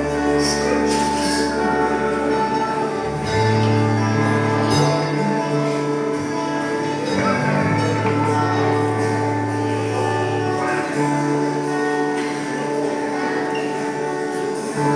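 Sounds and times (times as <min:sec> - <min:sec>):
acoustic guitar: 0:00.0 - 0:14.9
bass line: 0:00.0 - 0:14.9
sustained held chords: 0:00.0 - 0:14.9.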